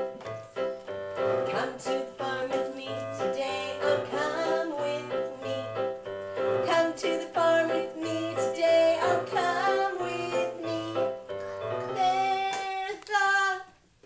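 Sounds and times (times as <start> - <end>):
children's tune on electronic keyboard: 0.0 - 13.3.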